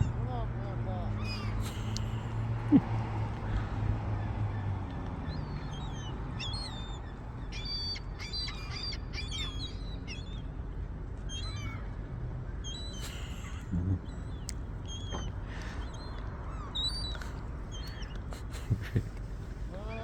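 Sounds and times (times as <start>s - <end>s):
gulls squawking: 0.0s - 10.6s, 11.3s - 20.0s
steady low rumble: 0.0s - 20.0s.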